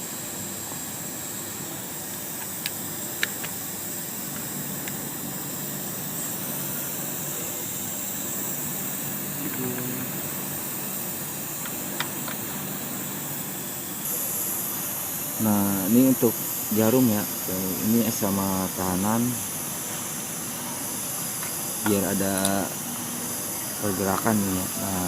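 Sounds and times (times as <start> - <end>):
machine hiss: 0.0 - 25.0.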